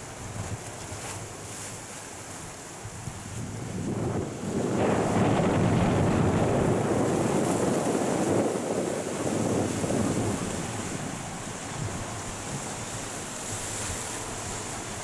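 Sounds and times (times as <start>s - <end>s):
surf breaking around rocks: 0.0s - 15.0s
wind buffeting microphone: 0.0s - 15.0s.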